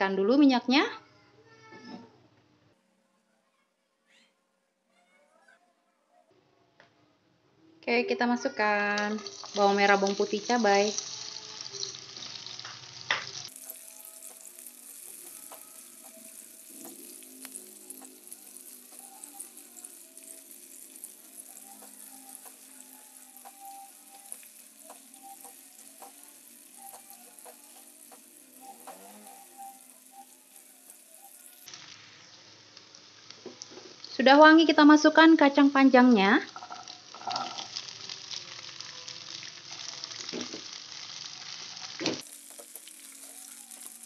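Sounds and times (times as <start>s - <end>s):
vegetables sizzling in oil: 7.9s - 44.0s.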